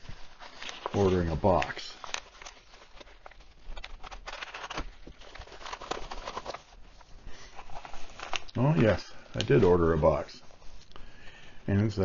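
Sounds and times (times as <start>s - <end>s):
paper mailer rustling and crinkling: 0.0s - 10.8s.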